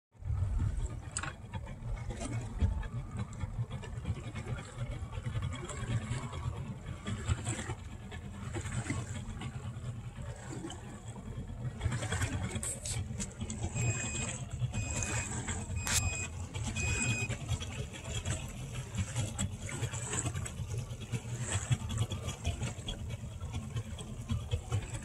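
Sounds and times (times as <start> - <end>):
low engine rumble: 0.1 - 25.0.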